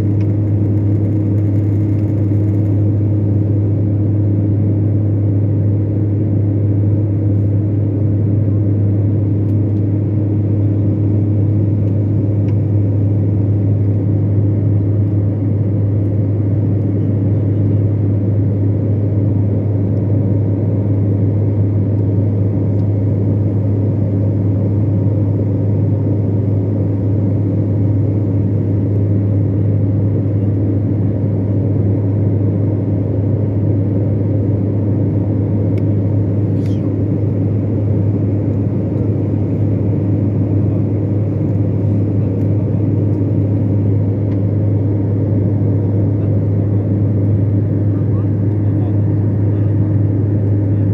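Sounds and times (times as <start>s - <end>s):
airliner cabin drone: 0.0s - 50.9s.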